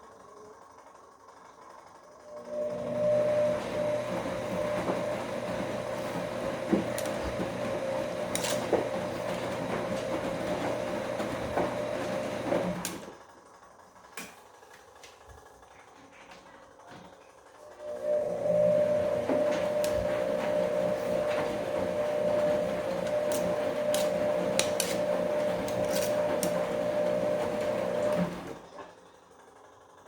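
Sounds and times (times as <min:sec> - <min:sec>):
washing machine motor whine: 0:00.0 - 0:30.0.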